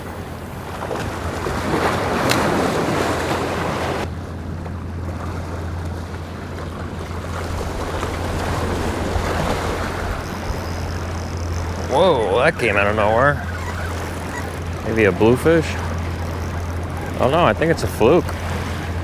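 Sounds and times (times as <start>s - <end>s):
surf splashing against rocks: 0.0s - 4.1s, 5.1s - 19.0s
wind rumbling on microphone: 0.0s - 19.0s.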